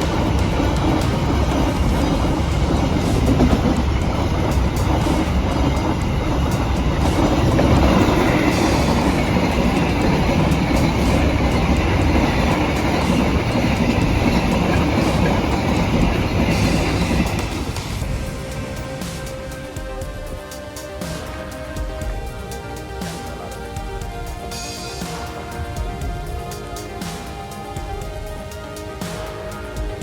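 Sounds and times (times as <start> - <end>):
train rumbling past: 0.0 - 30.0
wheels clacking over rail joints: 0.0 - 30.0.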